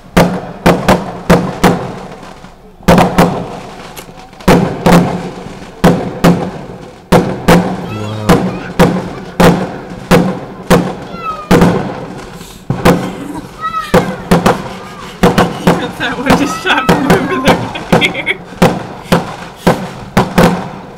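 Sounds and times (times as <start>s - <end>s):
firework bangs echoing: 0.0s - 20.9s.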